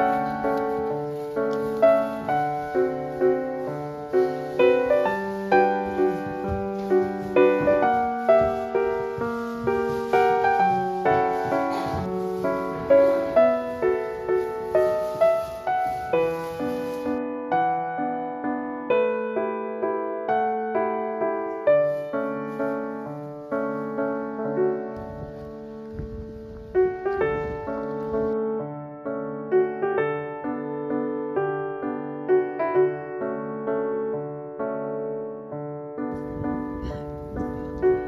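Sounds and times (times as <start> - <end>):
gentle piano melody: 0.0 - 38.0.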